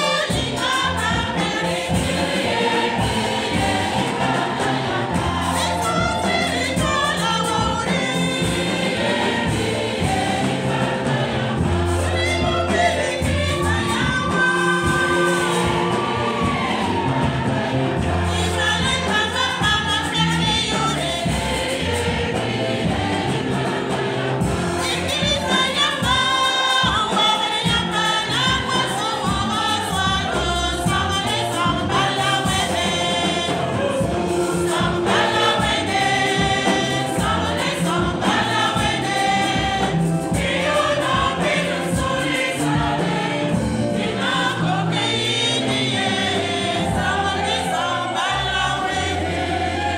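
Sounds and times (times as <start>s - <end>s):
congregation singing a hymn: 0.0s - 49.9s.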